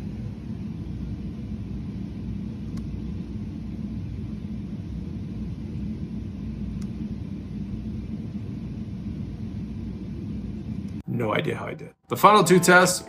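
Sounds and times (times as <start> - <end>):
low room noise rumble: 0.0 - 13.0.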